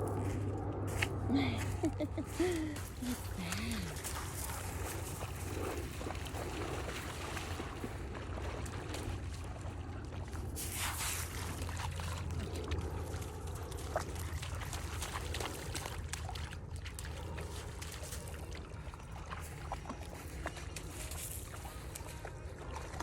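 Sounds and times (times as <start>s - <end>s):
steady low rumble: 0.0s - 23.0s
small water splashes: 2.4s - 23.0s.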